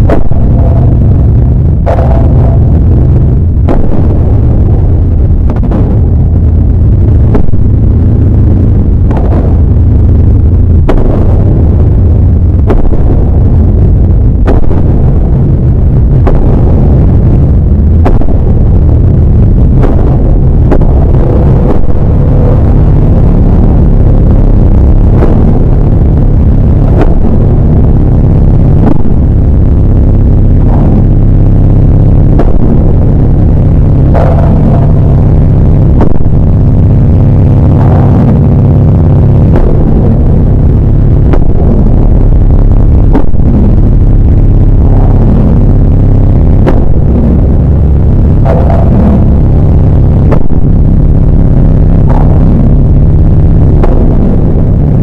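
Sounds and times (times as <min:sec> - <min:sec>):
distorted low rumble: 0:00.0 - 0:55.0.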